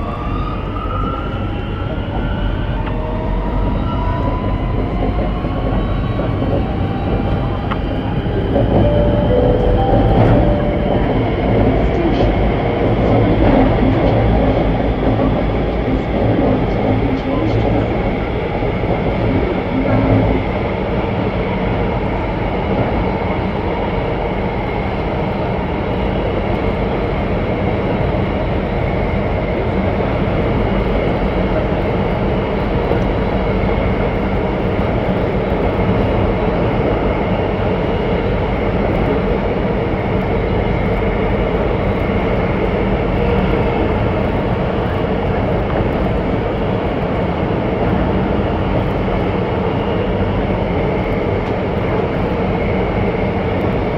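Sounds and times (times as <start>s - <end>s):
metro train rumbling: 0.0s - 53.9s.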